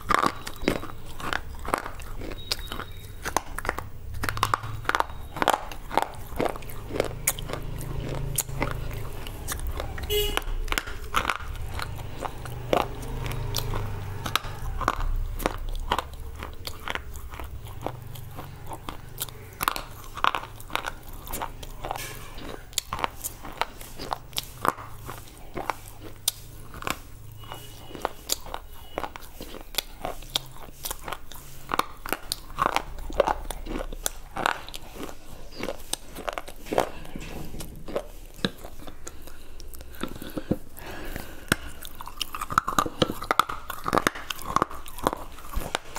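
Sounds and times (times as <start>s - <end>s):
crunching and chewing: 0.0s - 45.9s.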